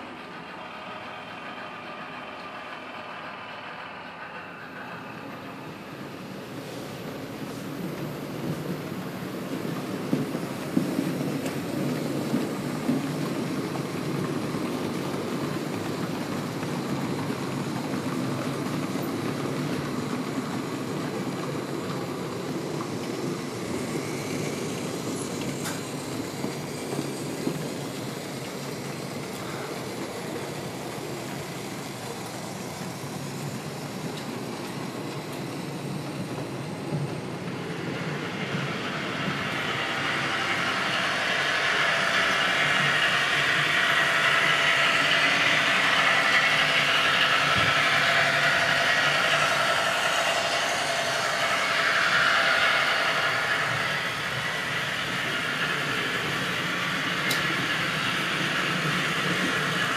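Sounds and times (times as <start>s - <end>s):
model train wheels rumbling: 0.0s - 59.9s
high hiss: 3.3s - 59.9s.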